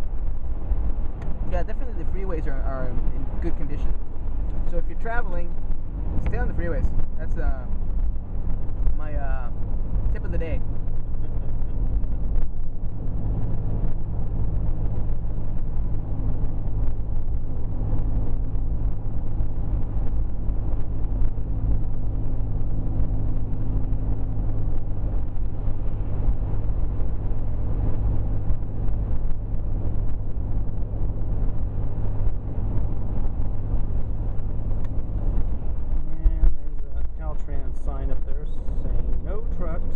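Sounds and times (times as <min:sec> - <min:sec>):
car engine and tyres drone: 0:00.0 - 0:39.9.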